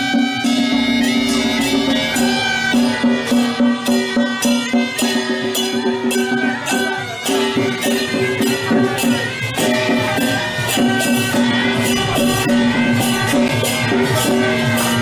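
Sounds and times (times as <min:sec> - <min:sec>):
drum beat: 0:00.0 - 0:15.0
hand cymbals: 0:00.0 - 0:15.0
nasal suona melody: 0:00.0 - 0:15.0.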